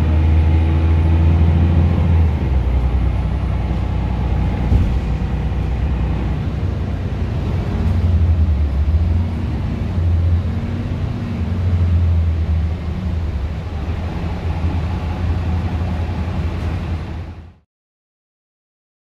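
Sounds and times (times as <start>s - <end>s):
road noise: 0.0s - 17.6s
bus engine drone: 0.0s - 17.7s.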